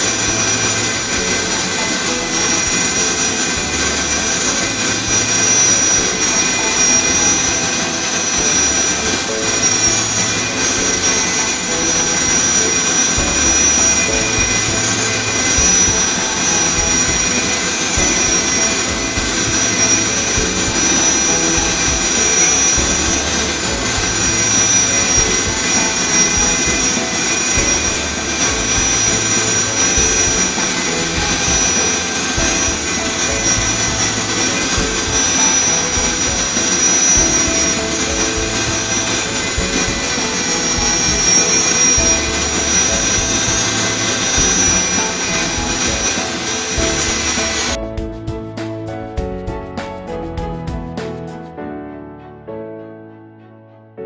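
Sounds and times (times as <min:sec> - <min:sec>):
drill spindle high-pitched whine: 0:00.0 - 0:47.8.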